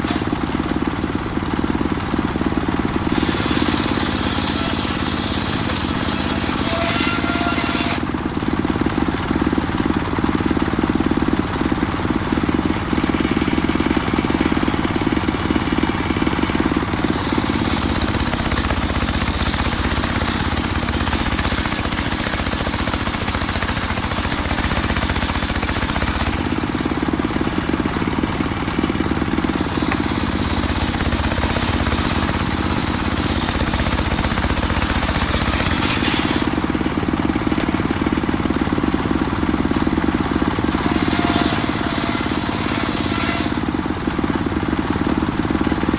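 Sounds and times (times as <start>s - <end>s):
circular sawmill sawing log: 0.0s - 45.9s.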